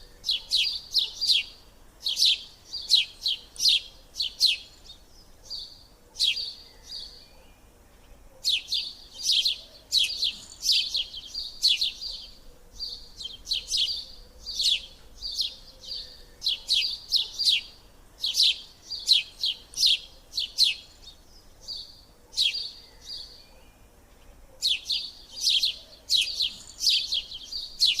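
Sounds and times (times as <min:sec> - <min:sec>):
canaries chirping: 0:00.0 - 0:07.2, 0:08.4 - 0:23.3, 0:24.6 - 0:28.0.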